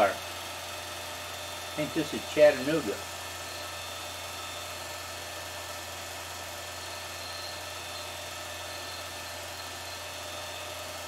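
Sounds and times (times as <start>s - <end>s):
faint high machine whine: 0.0s - 11.0s.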